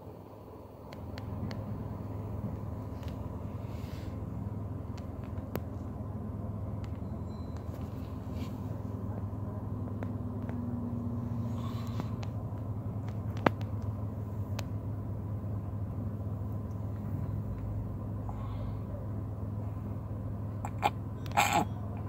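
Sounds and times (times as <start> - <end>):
low hum inside car cabin: 0.0 - 22.0.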